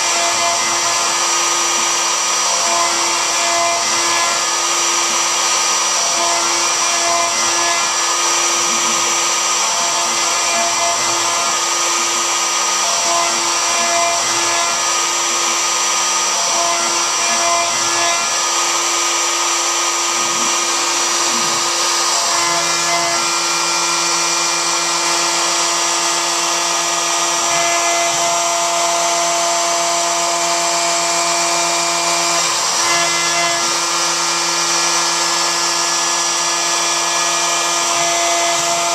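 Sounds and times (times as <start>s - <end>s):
router bit cutting: 0.0s - 38.9s
router spindle high whine: 0.0s - 38.9s.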